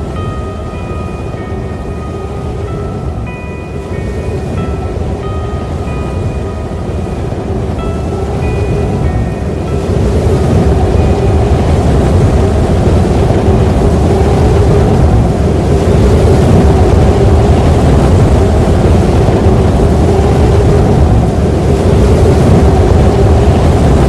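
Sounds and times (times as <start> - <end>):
strong wind howling: 0.0 - 24.0
wind buffeting microphone: 0.0 - 24.0.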